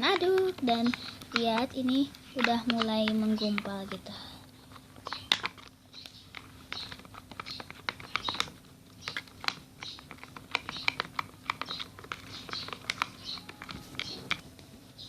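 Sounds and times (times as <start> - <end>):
stirrer clicking in sticky slime: 0.0 - 4.2, 5.0 - 14.4.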